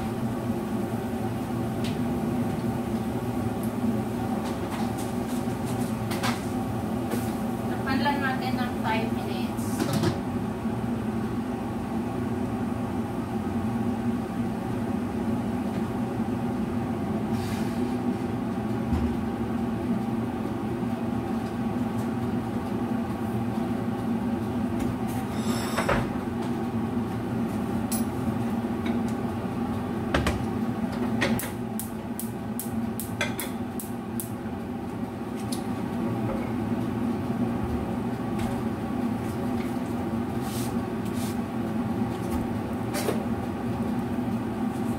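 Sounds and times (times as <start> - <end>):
range-hood fan humming: 0.0 - 44.9.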